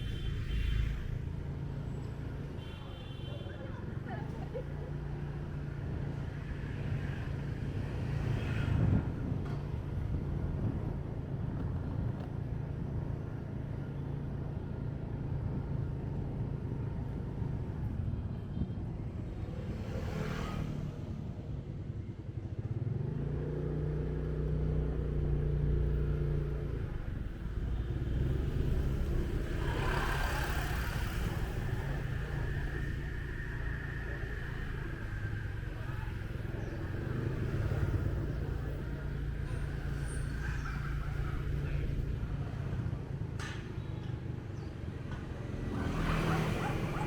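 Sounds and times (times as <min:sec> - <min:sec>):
motorbikes and traffic passing: 0:00.0 - 0:47.0.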